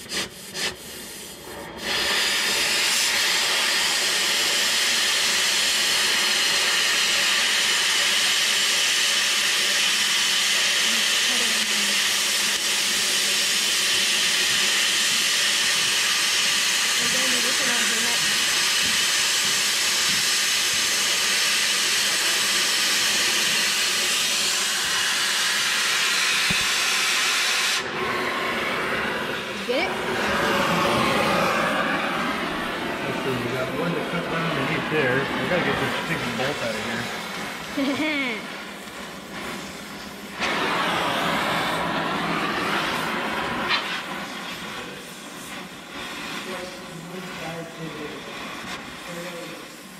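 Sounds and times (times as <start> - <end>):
cutting torch hissing: 0.0 - 49.9.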